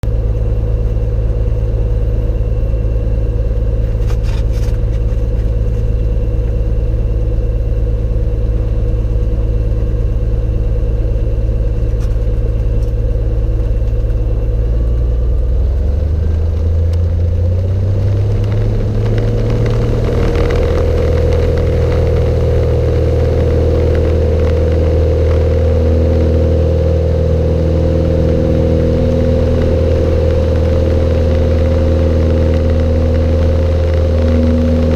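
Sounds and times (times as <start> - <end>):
propeller plane engine running: 0.0 - 34.9.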